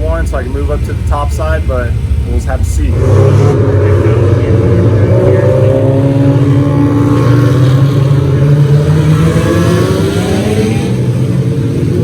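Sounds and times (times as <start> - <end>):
race car engine accelerating: 0.6 - 12.0.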